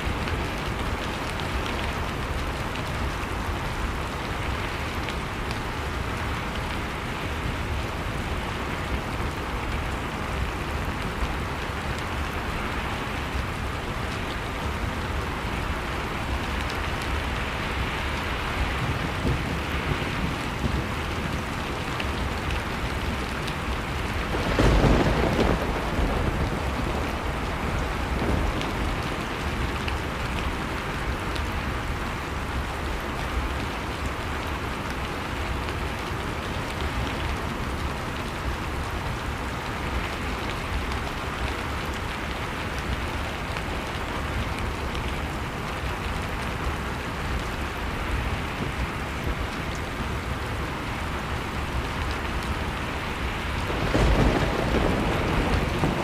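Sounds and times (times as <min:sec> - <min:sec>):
blizzard wind: 0:00.0 - 0:56.0.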